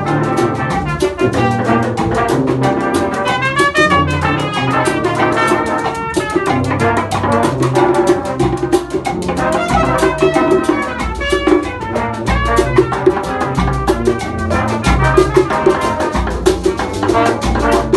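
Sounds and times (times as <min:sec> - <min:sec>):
brass horns: 0:00.0 - 0:17.9
drum kit and percussion beat: 0:00.0 - 0:17.9
low bass notes: 0:00.0 - 0:17.9.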